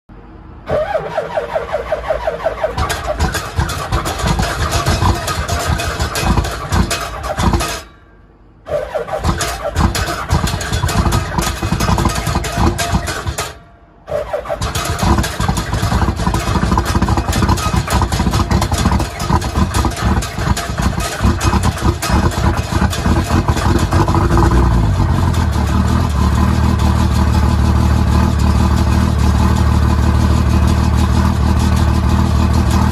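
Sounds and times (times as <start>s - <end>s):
diesel engine idling unevenly: 0.7s - 32.9s.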